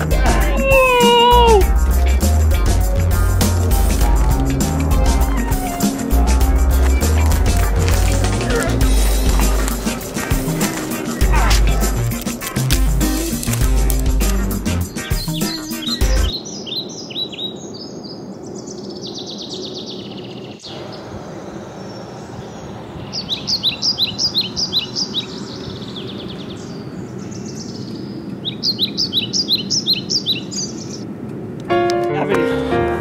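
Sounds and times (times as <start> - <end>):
small songbirds chirping: 0.0 - 31.1.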